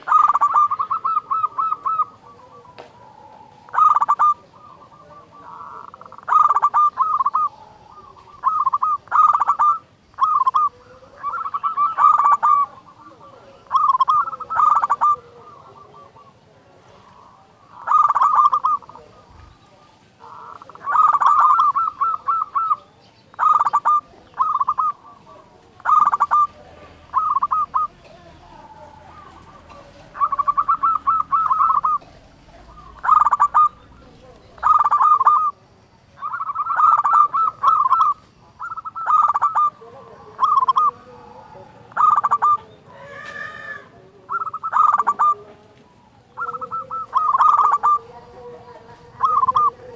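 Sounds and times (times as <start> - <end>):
dove cooing: 0.0 - 49.9
drawn-out multi-tone bird call: 0.0 - 49.9.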